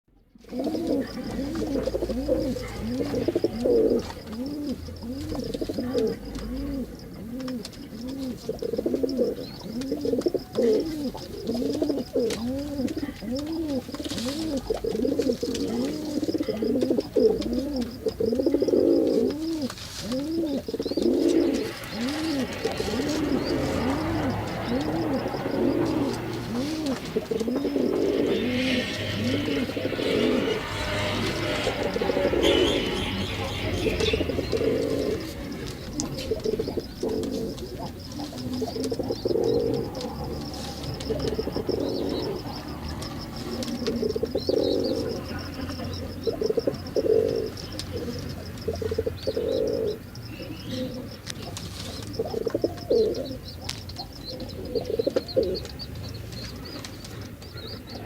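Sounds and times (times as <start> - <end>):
pigeon cooing: 0.4 - 58.0.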